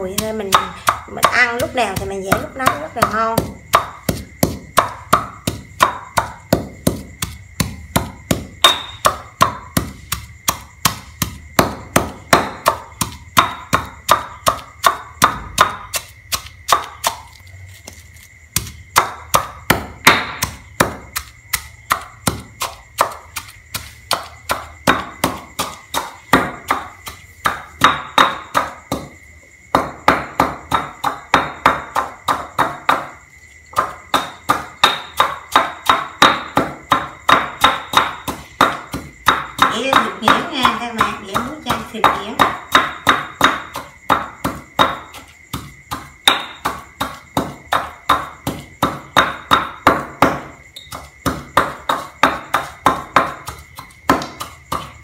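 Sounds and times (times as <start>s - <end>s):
pestle pounding in stone mortar: 0.0s - 55.0s.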